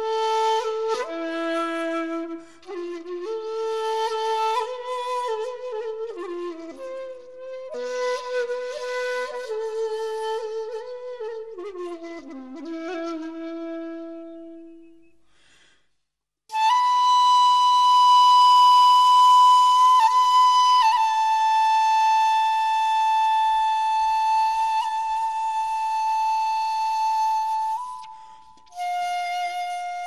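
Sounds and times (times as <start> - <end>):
flute-like wind instrument melody: 0.0 - 15.1, 16.5 - 30.0.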